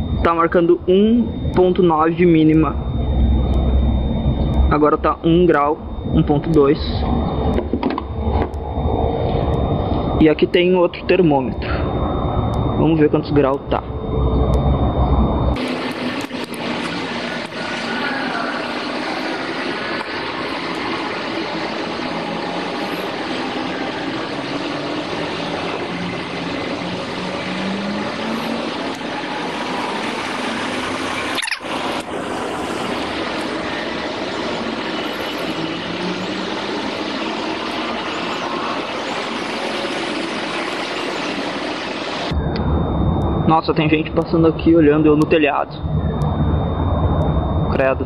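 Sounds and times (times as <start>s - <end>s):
distant vehicle engines humming: 0.0s - 42.6s.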